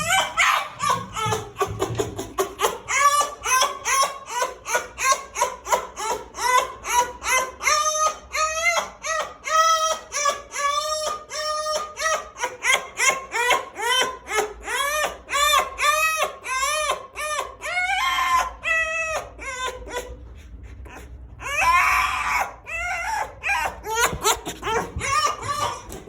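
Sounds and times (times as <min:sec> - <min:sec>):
fox whining squeals: 0:00.0 - 0:26.0.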